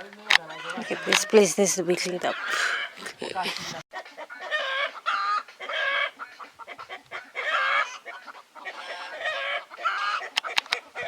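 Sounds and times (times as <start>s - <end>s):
chicken drawn-out calls: 0.0s - 11.0s
chickens clucking: 0.0s - 11.0s.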